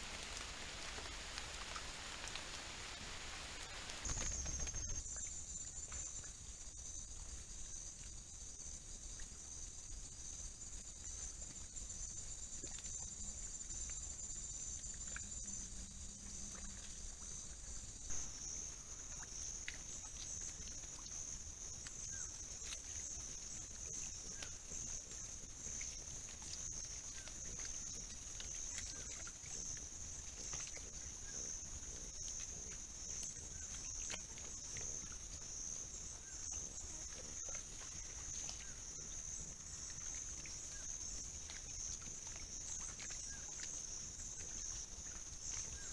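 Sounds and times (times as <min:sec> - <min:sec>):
insect chorus trilling: 0:00.0 - 0:45.9.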